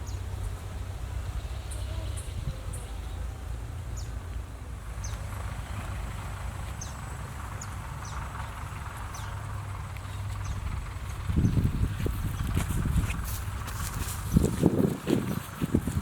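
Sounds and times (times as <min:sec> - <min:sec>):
low rumble: 0:02.3 - 0:16.0.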